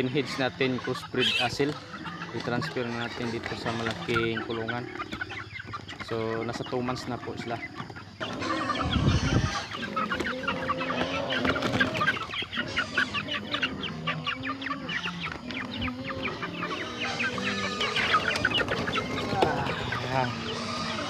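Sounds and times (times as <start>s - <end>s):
chickens clucking and peeping: 0.0s - 21.0s.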